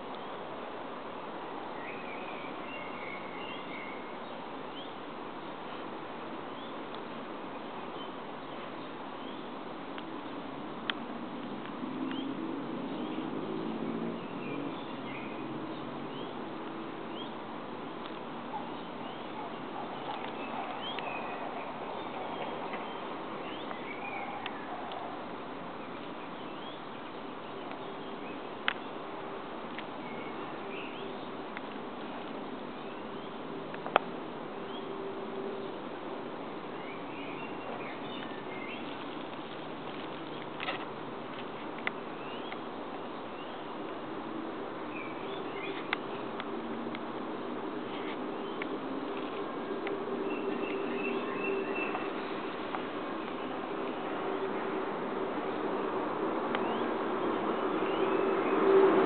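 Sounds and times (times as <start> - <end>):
steady outdoor hiss: 0.0 - 59.0
small birds chirping: 1.7 - 35.8, 36.4 - 44.2, 44.8 - 54.8.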